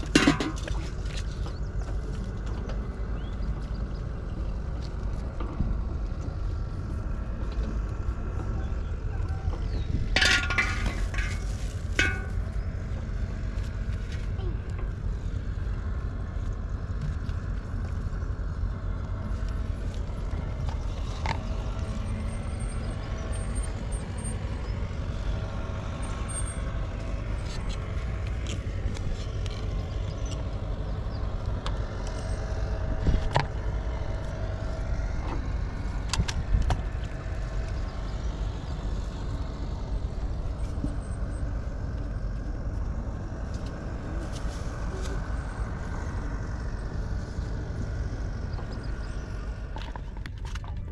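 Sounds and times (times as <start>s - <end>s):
distant engine drone: 0.0s - 50.9s.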